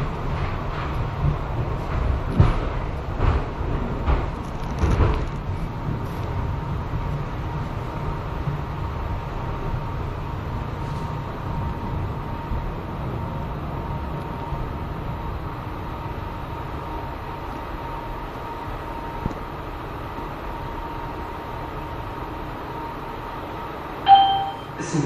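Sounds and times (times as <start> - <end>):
constant high whine: 0.0 - 25.0
train car running rumble: 0.0 - 25.0.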